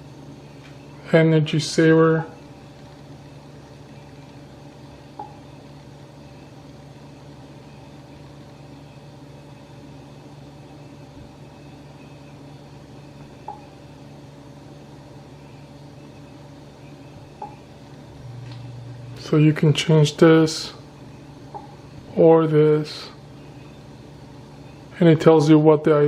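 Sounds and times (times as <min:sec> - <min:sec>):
refrigerator humming: 0:00.0 - 0:26.0.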